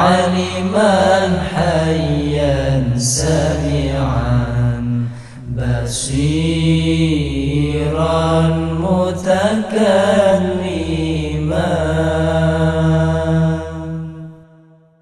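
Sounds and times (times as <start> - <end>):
steady low drone: 0.0 - 14.4
person chanting long notes: 0.0 - 14.5.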